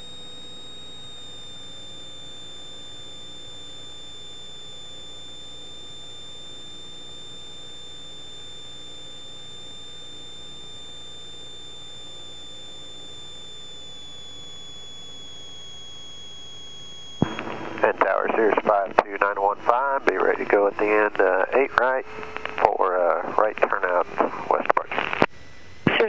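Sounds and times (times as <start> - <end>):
high-pitched electrical whine: 0.0 - 26.0.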